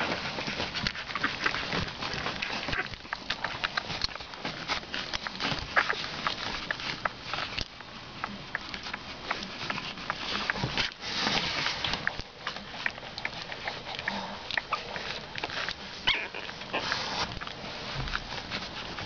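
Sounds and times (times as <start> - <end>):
puppies sniffing and shuffling: 0.0 - 19.0
rustling: 0.0 - 19.0
small clicks and scratches: 0.0 - 19.0.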